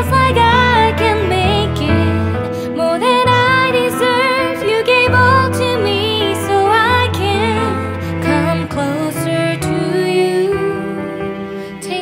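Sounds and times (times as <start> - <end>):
background song music: 0.0 - 12.0.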